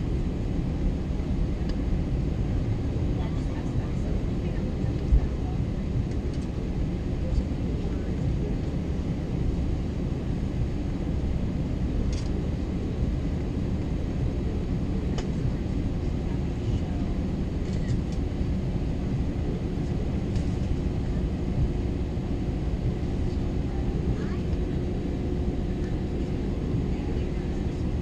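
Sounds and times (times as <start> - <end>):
faint steady hum: 0.0 - 28.0
low cabin rumble: 0.0 - 28.0.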